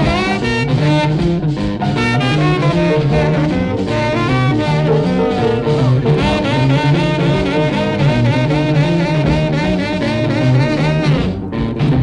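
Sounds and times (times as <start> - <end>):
instrumental rock and roll record: 0.0 - 12.0.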